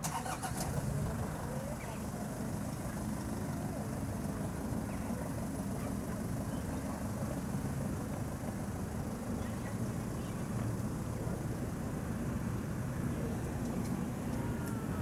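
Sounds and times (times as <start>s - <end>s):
distant vehicle engines rumbling: 0.0s - 15.0s.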